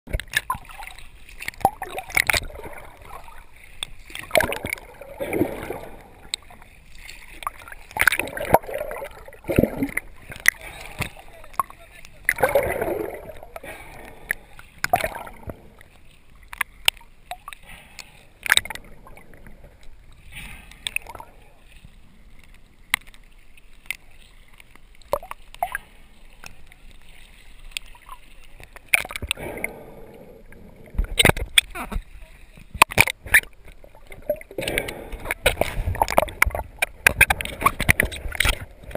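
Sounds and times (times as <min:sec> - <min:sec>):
sea water sloshing and splashing: 0:00.1 - 0:38.9
underwater bubbling: 0:00.1 - 0:38.9.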